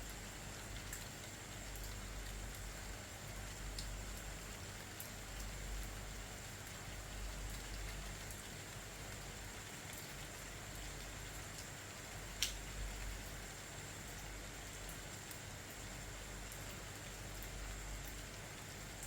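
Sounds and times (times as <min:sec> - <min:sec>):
raindrops ticking on hard surface: 0:00.0 - 0:19.0
steady rainfall: 0:00.0 - 0:19.0.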